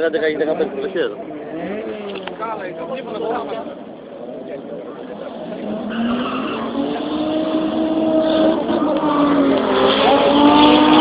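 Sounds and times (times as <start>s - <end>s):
drag racing cars accelerating: 0.3s - 11.0s.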